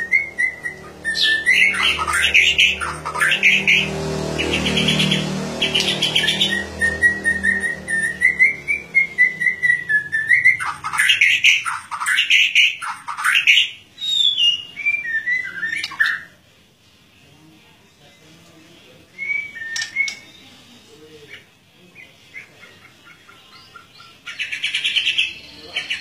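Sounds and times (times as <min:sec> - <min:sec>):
songbird singing trills and whistles: 0:00.0 - 0:16.4, 0:19.1 - 0:26.0.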